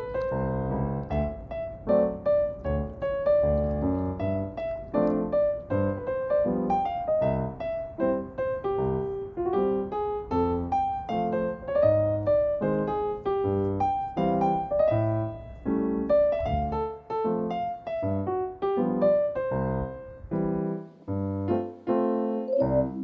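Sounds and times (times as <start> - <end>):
background piano music: 0.0 - 23.0.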